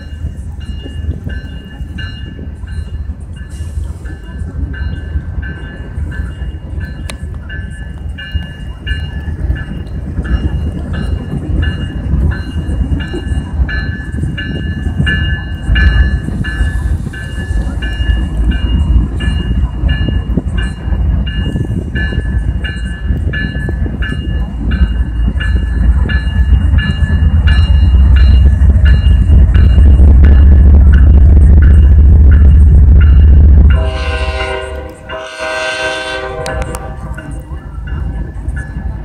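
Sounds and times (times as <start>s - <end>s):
diesel locomotive engines rumbling: 0.0s - 39.0s
locomotive bell ringing: 0.0s - 39.0s.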